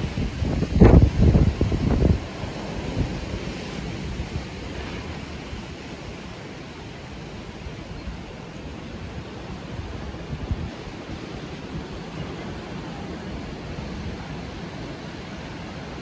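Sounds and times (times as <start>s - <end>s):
surf: 0.0s - 16.0s
wind: 0.0s - 16.0s
wind rumbling on microphone: 0.0s - 16.0s.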